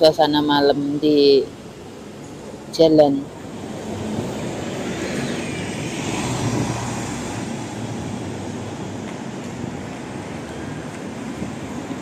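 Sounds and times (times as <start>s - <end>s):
vehicle passing on road: 1.4s - 12.0s.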